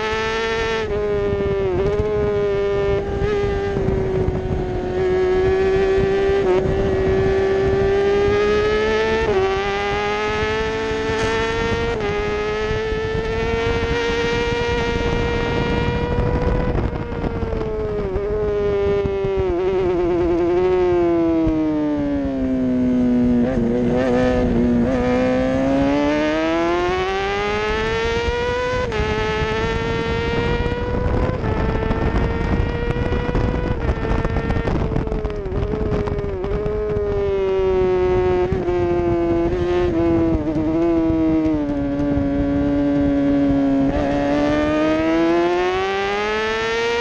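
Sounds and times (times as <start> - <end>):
racing motorcycle engine: 0.0 - 47.0
wind noise: 0.0 - 47.0.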